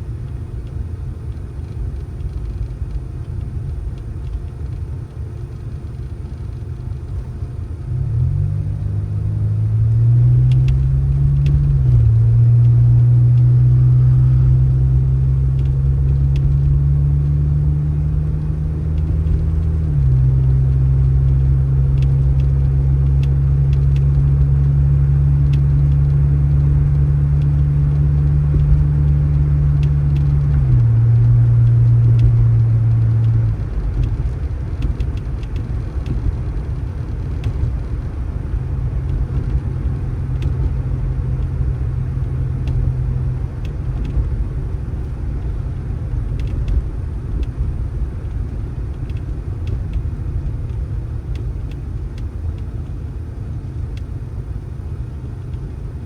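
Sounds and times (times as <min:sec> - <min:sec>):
vehicle engine droning: 0:00.0 - 0:56.0.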